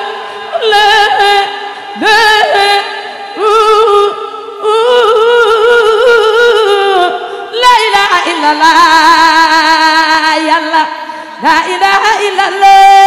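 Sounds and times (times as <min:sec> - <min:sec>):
woman singing chant: 0:00.0 - 0:13.0.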